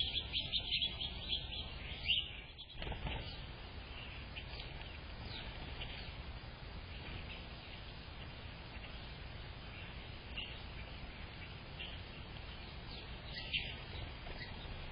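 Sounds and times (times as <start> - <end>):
low background rumble: 0.0 - 14.9
songbirds chirping: 0.0 - 14.9.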